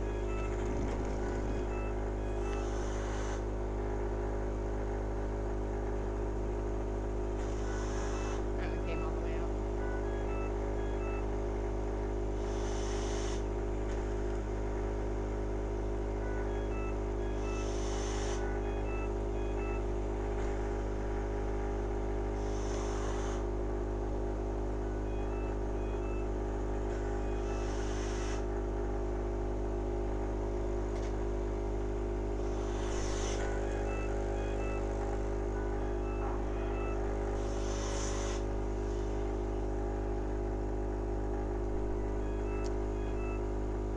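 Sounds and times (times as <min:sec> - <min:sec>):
respiratory machine motor hum: 0:00.0 - 0:43.9.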